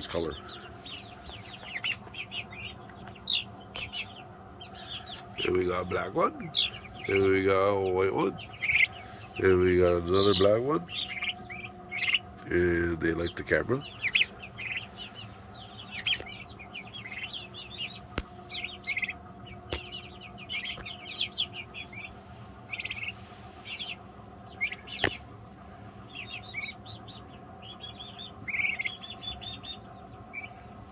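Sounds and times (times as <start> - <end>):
chicks peeping: 0.0 - 30.9.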